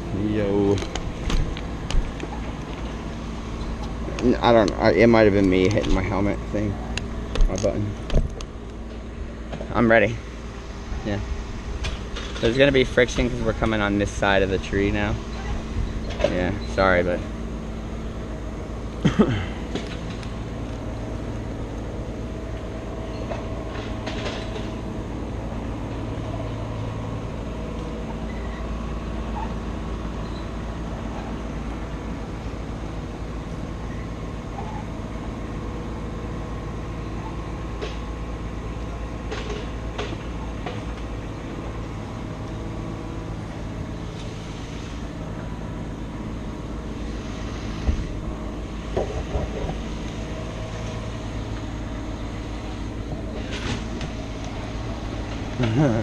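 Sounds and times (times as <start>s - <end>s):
large engine droning: 0.0s - 56.0s.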